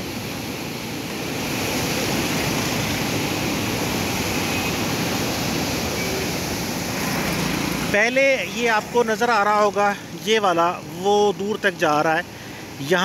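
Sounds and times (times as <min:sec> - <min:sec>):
water rushing through spillway: 0:00.0 - 0:13.0.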